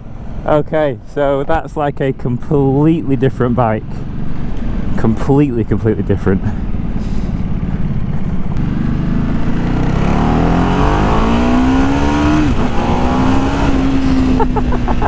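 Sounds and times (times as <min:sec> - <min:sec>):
motorcycle engine accelerating: 0:02.6 - 0:15.0.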